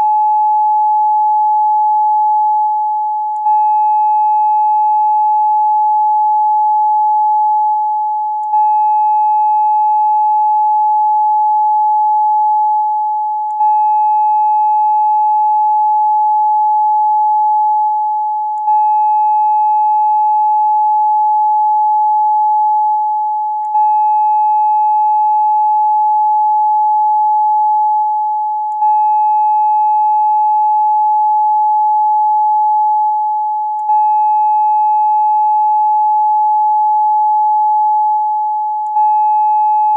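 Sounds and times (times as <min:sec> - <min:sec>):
steady pure electronic tone: 0:00.0 - 0:39.9.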